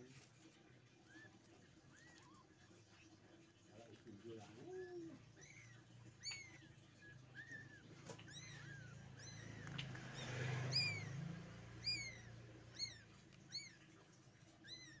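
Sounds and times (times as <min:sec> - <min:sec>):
kittens mewing: 0:00.8 - 0:15.0.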